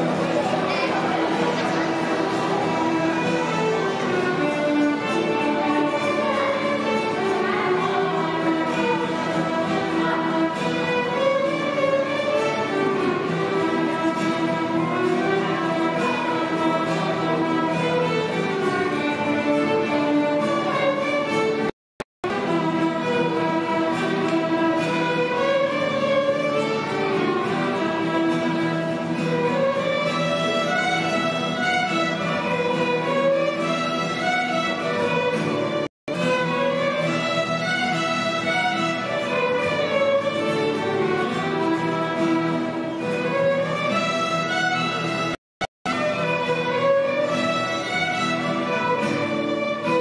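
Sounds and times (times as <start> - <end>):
guitar accompaniment: 0.0 - 50.0
violins playing melody: 0.0 - 50.0.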